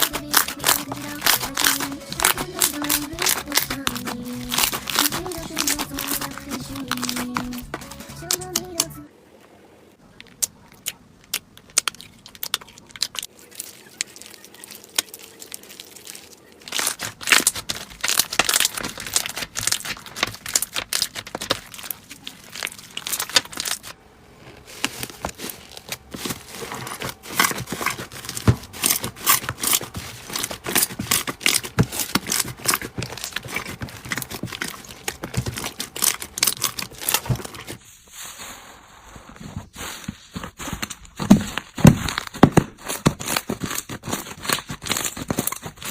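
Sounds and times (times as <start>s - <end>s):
crunchy slime crackling: 0.0s - 9.0s, 10.1s - 45.9s.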